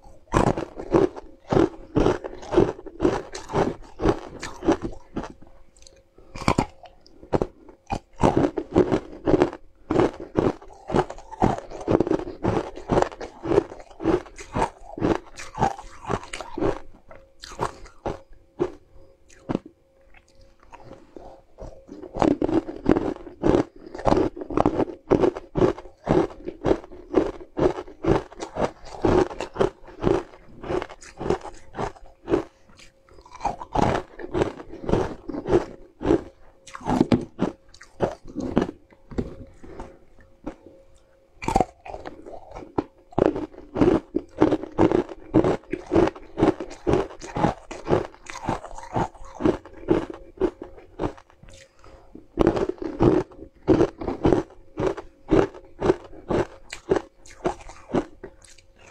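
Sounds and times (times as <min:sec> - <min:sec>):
crunching and chewing ice: 0:00.0 - 0:58.9.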